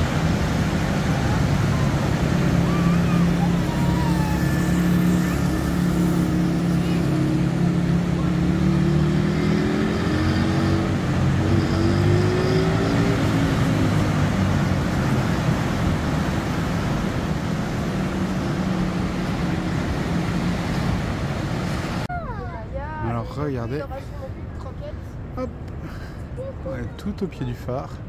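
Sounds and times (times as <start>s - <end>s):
surf breaking on a beach: 0.0s - 24.4s.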